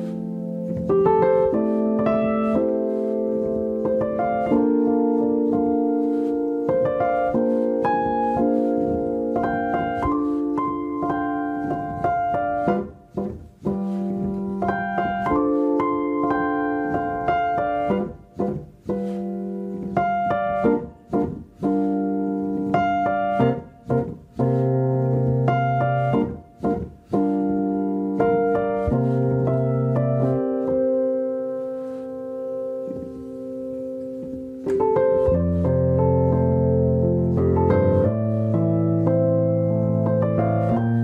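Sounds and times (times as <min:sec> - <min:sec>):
solo piano music: 0:00.0 - 0:41.0.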